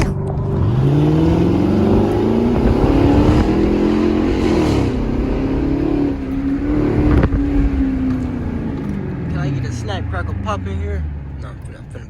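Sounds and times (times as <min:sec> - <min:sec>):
loud car engine exhaust revving: 0:00.0 - 0:12.0.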